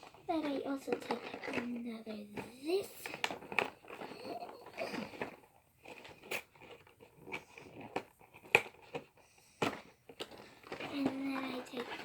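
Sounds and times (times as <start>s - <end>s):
packaging rustling: 0.0s - 12.0s
plastic packaging clicks and snaps: 2.4s - 12.0s.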